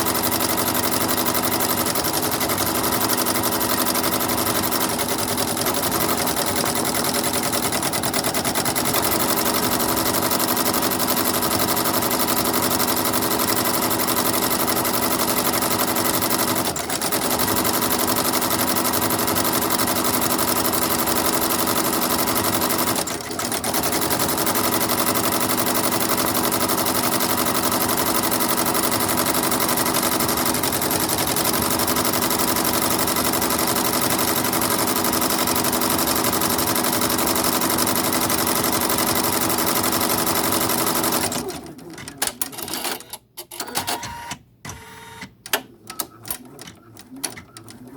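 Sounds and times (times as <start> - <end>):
embroidery machine needle clatter: 0.0 - 44.4, 45.2 - 47.9.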